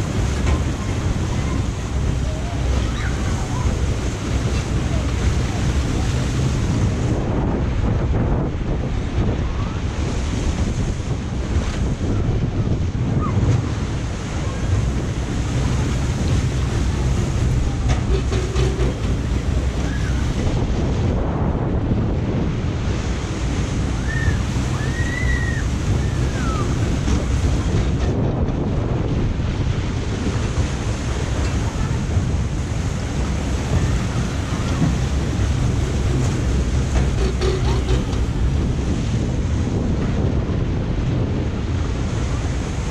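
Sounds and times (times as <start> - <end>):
water rushing and churning: 0.0 - 42.9
wind buffeting microphone: 0.0 - 42.9.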